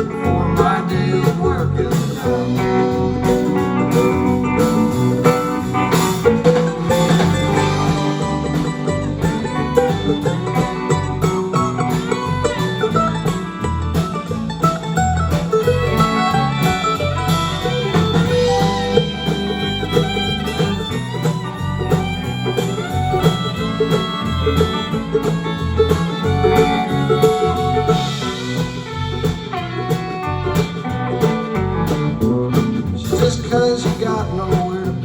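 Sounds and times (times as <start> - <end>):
live country band instrumental: 0.0 - 35.0.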